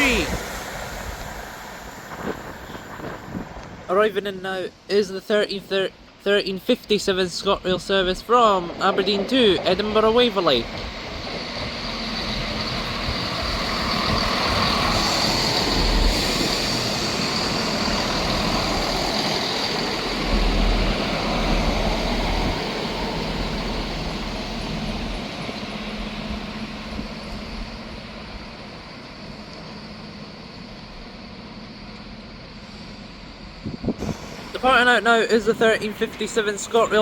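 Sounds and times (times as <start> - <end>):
diesel train braking: 0.0 - 37.0.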